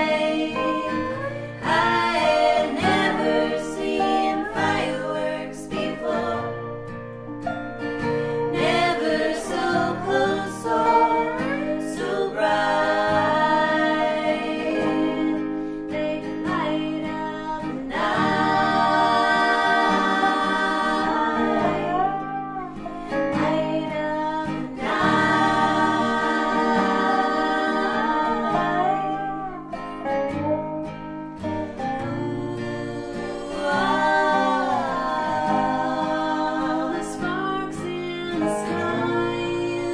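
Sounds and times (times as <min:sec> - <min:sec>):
women singing in harmony: 0:00.0 - 0:07.0, 0:08.2 - 0:29.4, 0:31.4 - 0:39.9
plucked guitar and dobro: 0:00.0 - 0:39.9.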